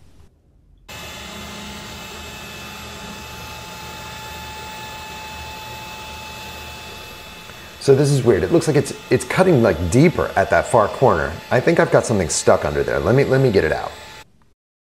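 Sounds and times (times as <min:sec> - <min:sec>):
router bit cutting wood: 0:00.9 - 0:14.3
router spindle whining: 0:00.9 - 0:14.3.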